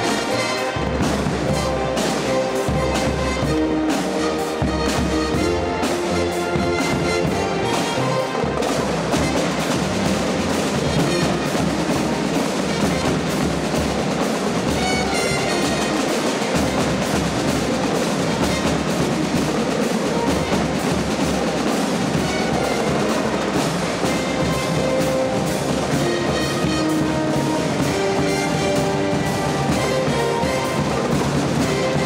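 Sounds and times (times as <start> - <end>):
snare drum rolls: 0.0 - 32.0
sustained brass notes: 0.0 - 32.0.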